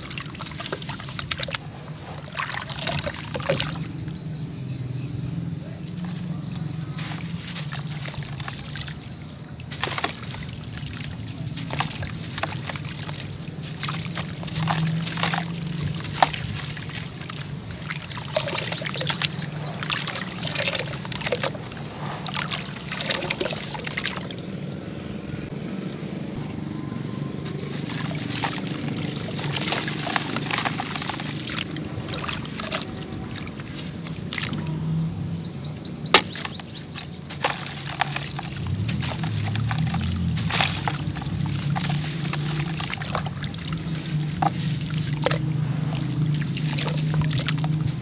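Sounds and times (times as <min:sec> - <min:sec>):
hands sloshing in muddy water: 0:00.0 - 0:04.8, 0:05.6 - 0:25.1, 0:27.2 - 0:48.0.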